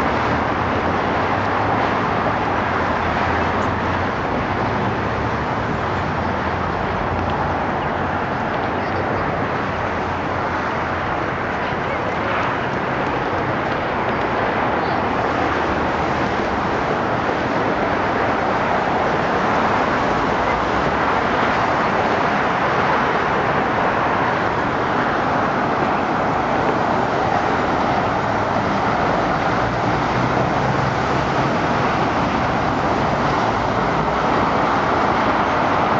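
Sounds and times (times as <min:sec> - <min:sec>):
road traffic rush: 0:00.0 - 0:35.9.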